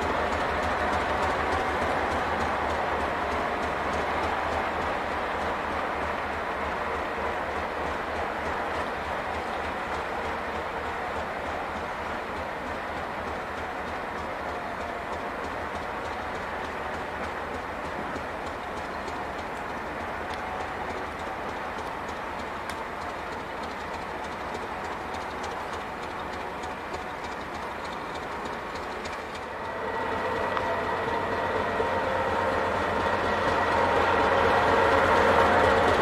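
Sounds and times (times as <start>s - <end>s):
locomotive diesel engine: 0.0s - 36.0s.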